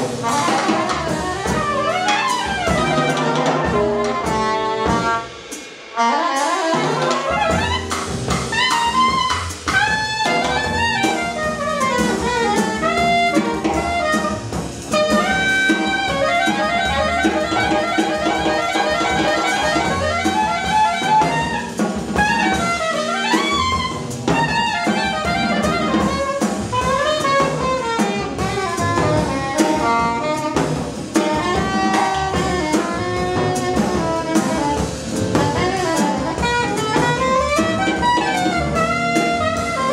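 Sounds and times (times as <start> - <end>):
upright bass: 0.0 - 5.3, 6.8 - 39.9
drum kit: 0.0 - 39.9
soprano saxophone melody: 0.2 - 5.3, 6.0 - 39.9.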